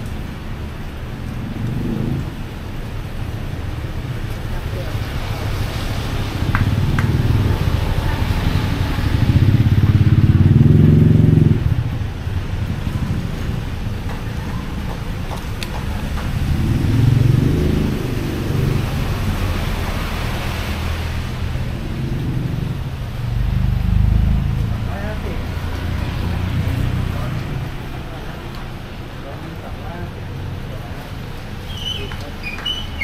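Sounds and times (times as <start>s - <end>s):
street and market hum: 0.0s - 33.0s
vehicles passing: 0.0s - 33.0s.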